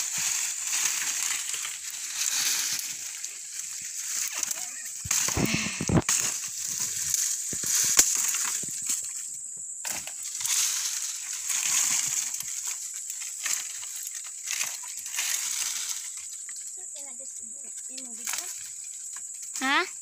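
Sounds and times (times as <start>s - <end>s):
branches and leaves rustling: 0.0s - 20.0s
steady high hiss: 0.0s - 20.0s.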